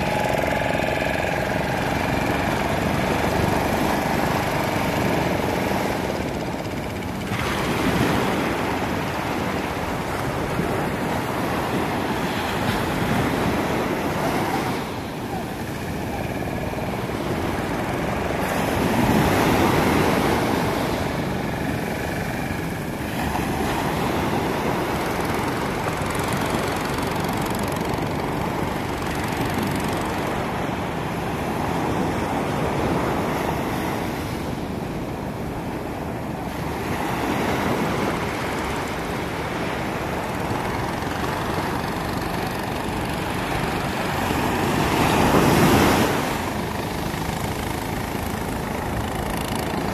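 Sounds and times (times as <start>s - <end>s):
sea surf breaking on beach: 0.0s - 49.9s.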